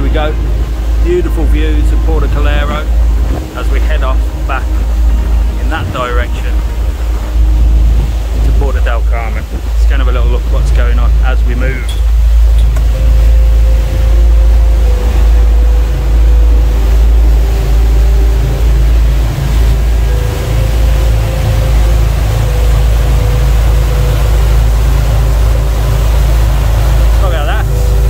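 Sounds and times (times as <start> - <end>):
boat engine running: 0.0 - 28.0
rushing water: 0.0 - 28.0
wind noise: 0.0 - 28.0.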